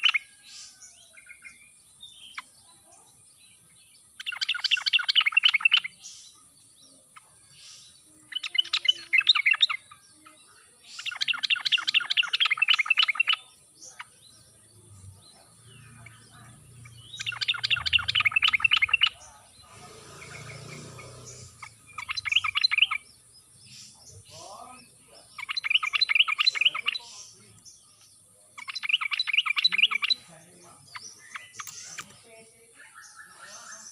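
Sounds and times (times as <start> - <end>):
bird chattering song: 0.0 - 33.9.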